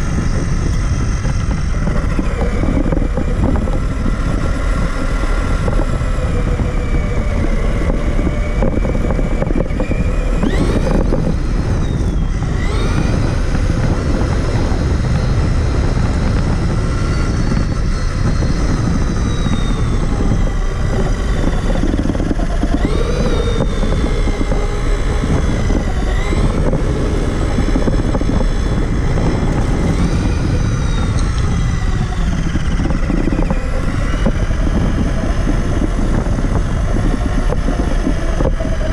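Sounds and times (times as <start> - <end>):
electric motor whining: 0.0 - 38.9
low chassis rumble: 0.0 - 38.9.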